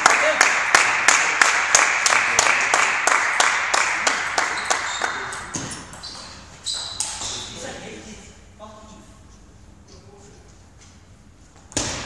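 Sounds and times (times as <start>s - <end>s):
background noise: 0.0s - 12.0s.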